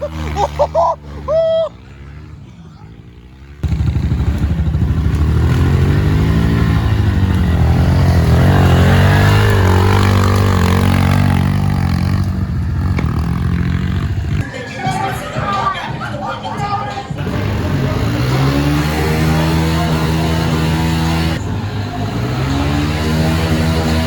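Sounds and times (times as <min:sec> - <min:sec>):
motorbike engine revving: 0:00.0 - 0:14.5, 0:16.6 - 0:24.0.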